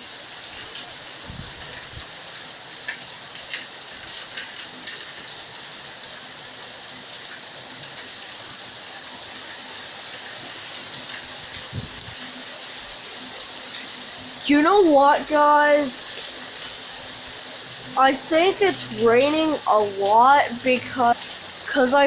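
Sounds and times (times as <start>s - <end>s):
steady rainfall: 0.0s - 22.0s
sharp raindrop ticks: 0.1s - 8.6s, 9.4s - 12.6s, 13.3s - 22.0s.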